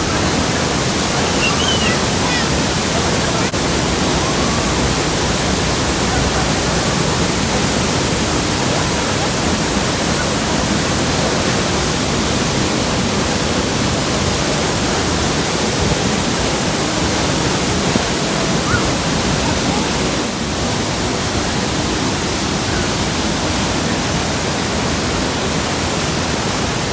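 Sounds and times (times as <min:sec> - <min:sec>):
waterfall crashing: 0:00.0 - 0:26.9.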